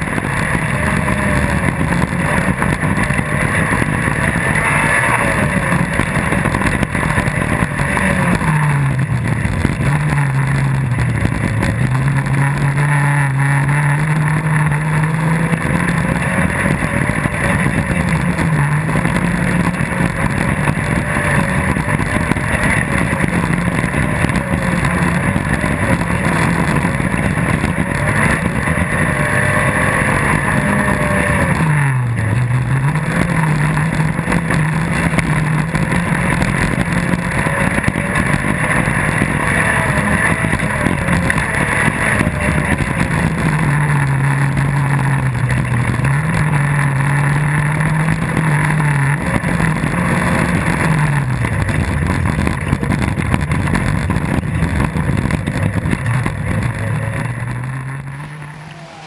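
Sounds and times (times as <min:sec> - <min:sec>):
buggy engine running hard: 0:00.0 - 0:59.0.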